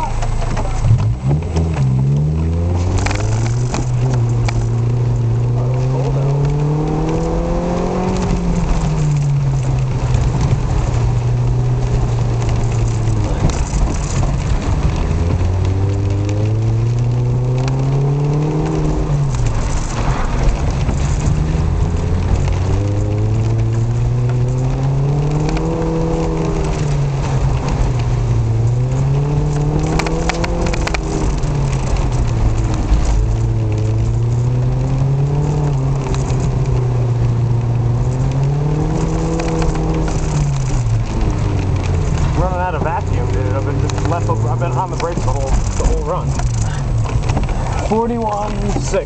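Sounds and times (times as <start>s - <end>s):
car engine accelerating hard: 0.0s - 49.0s
tyre noise on wet road: 0.0s - 49.0s.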